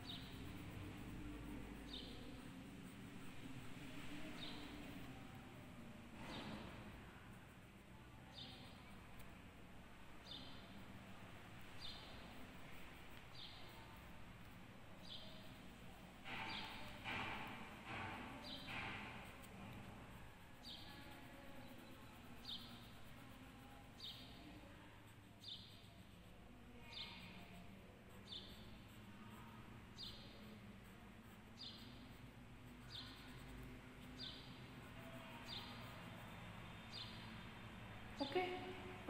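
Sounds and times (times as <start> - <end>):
faint room noise: 0.0 - 39.0.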